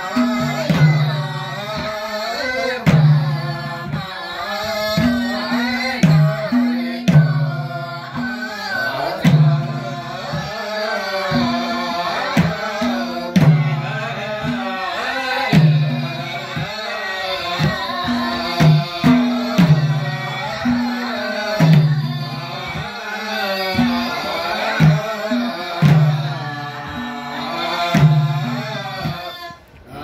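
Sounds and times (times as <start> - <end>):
hand drum strokes: 0.0 - 10.6, 11.2 - 29.6
women singing together: 0.0 - 30.0.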